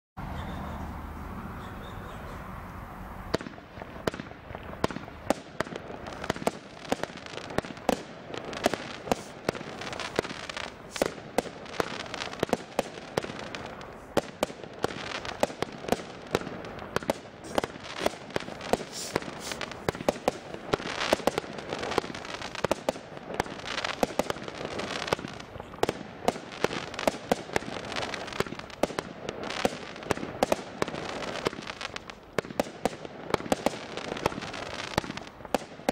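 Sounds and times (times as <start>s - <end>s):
firework bursts: 2.4s - 35.9s
firework hiss: 3.2s - 35.9s
firework launch bangs: 3.3s - 35.9s.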